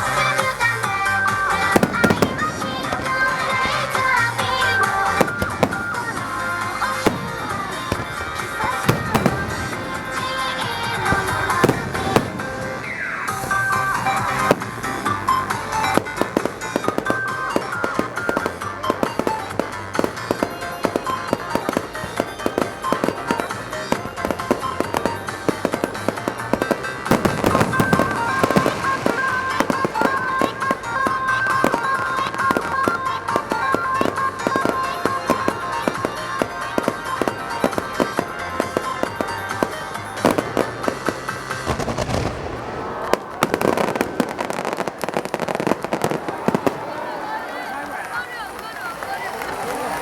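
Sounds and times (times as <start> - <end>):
fireworks bursting and crackling: 0.0 - 50.0
music playing: 0.0 - 50.0.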